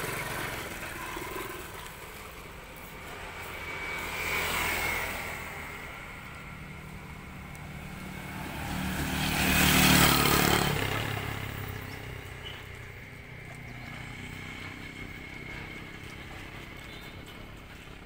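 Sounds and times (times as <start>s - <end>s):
motorbike passing by: 0.0s - 18.0s.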